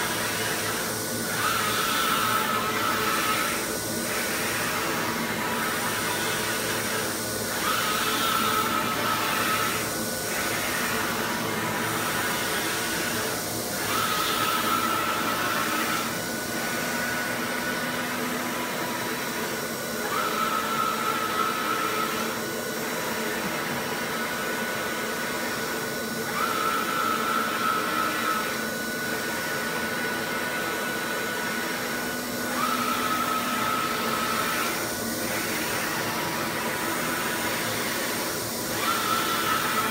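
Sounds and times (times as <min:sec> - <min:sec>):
printer fans whirring: 0:00.0 - 0:39.9.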